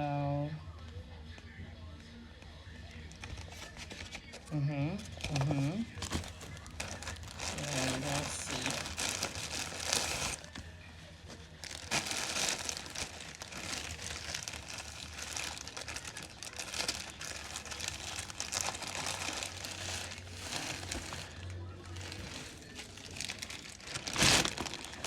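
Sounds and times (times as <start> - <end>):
packaging crinkling and rustling: 3.1 - 4.4, 5.0 - 25.0.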